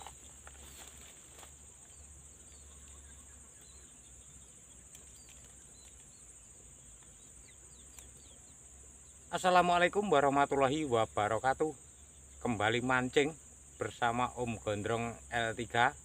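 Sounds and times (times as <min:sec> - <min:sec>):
faint bird chirps: 0:00.0 - 0:14.1.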